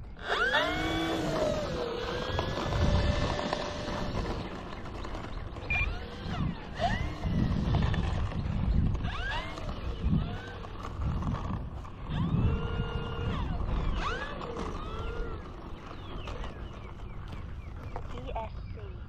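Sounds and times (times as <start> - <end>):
songbirds chirping: 0.0 - 19.0
wind buffeting microphone: 0.0 - 19.0.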